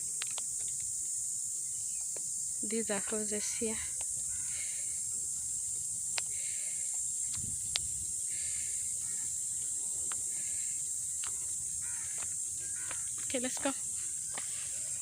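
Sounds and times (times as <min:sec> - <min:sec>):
high-pitched outdoor hiss: 0:00.0 - 0:15.0.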